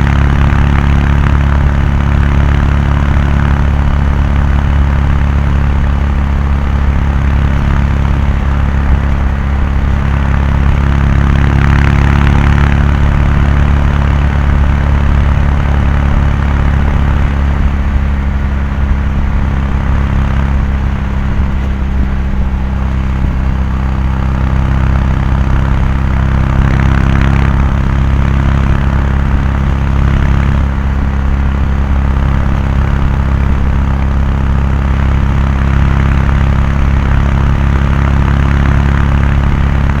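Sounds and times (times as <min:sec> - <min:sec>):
motorcycle exhaust cruising: 0:00.0 - 0:40.0.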